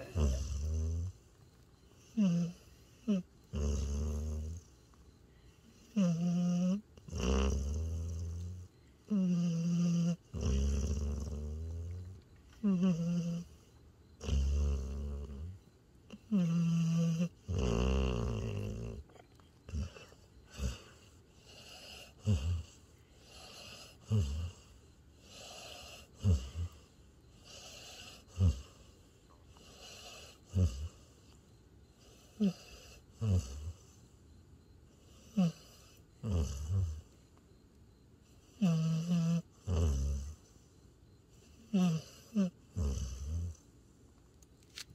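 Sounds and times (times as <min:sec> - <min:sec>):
dog snoring: 0:00.0 - 0:34.1, 0:34.8 - 0:37.2, 0:38.3 - 0:43.7.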